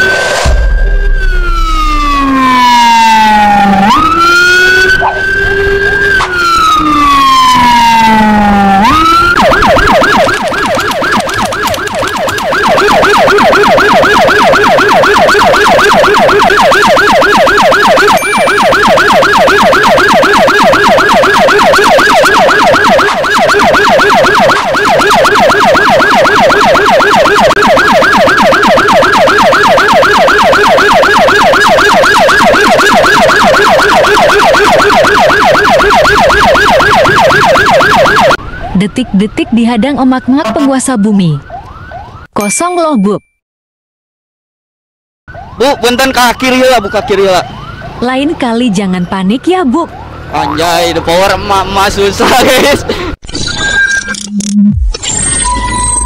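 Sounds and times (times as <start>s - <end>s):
electronic emergency siren: 0.0s - 42.3s, 45.3s - 52.7s, 53.4s - 56.0s.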